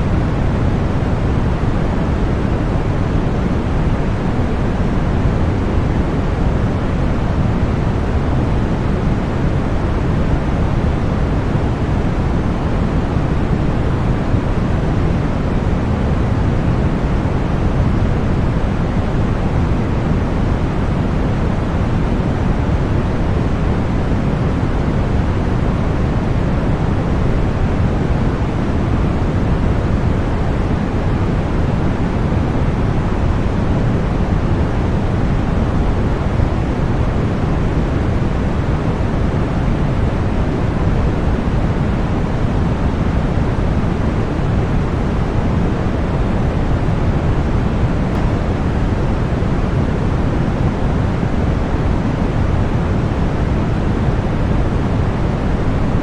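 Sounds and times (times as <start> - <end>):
deep white noise: 0.0 - 56.0.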